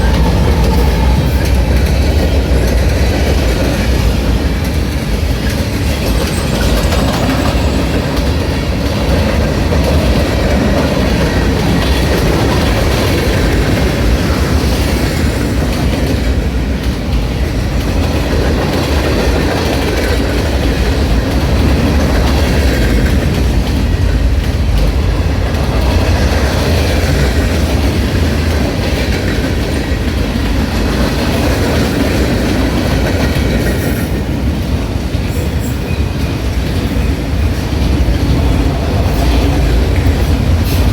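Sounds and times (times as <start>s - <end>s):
freight train wheels on rail: 0.0s - 40.9s.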